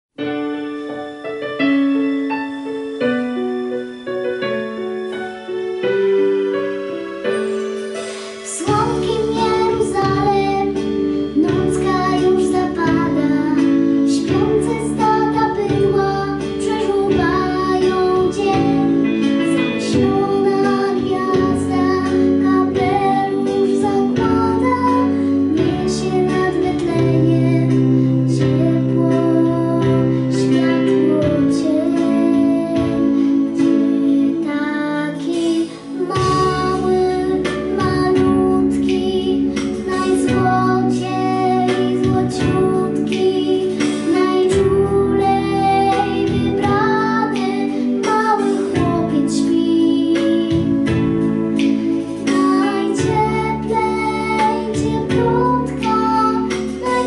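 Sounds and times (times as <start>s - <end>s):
instrumental backing track: 0.1s - 57.0s
girl singing a christmas carol: 8.5s - 51.2s, 51.8s - 57.0s.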